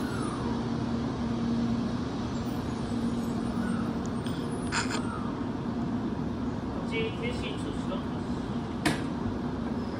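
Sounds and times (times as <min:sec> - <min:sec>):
train electric hum: 0:00.0 - 0:09.9.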